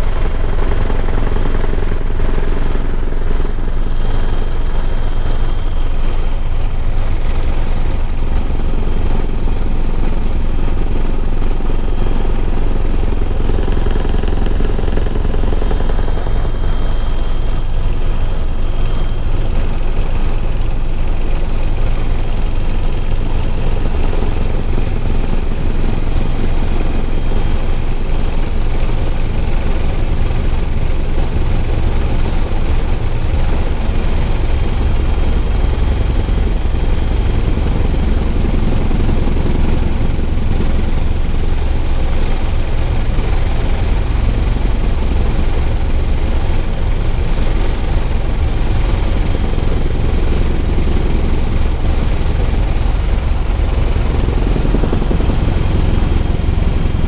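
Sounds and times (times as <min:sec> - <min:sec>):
faint high whine: 0:00.0 - 0:57.0
helicopter drone: 0:00.0 - 0:57.0.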